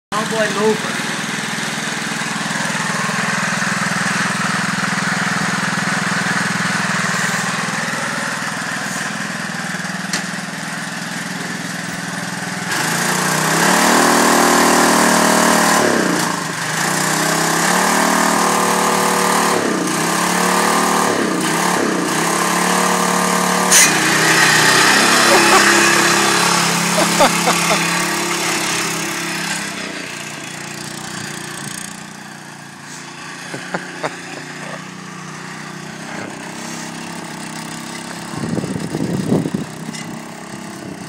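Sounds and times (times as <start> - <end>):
mower engine idling and revving: 0.1 - 41.0.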